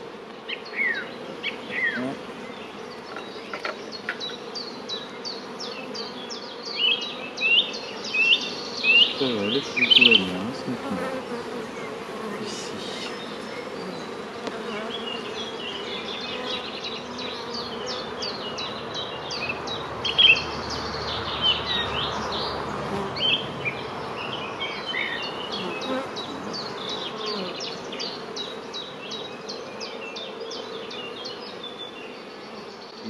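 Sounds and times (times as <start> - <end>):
honeybees humming: 0.0 - 33.0
small birds chirping: 0.4 - 33.0.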